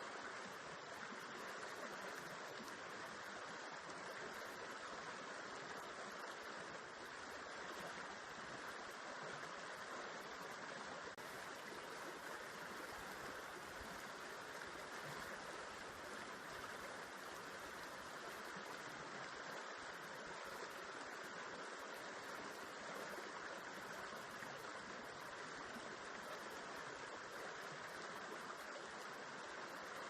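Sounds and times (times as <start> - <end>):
river flowing: 0.0 - 30.0.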